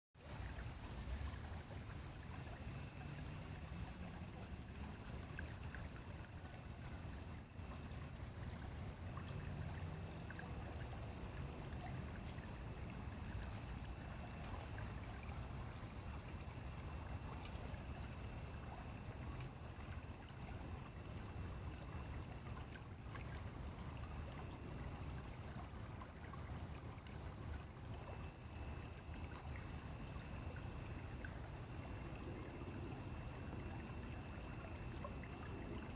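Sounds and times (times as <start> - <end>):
stream water flowing: 0.2 - 35.9.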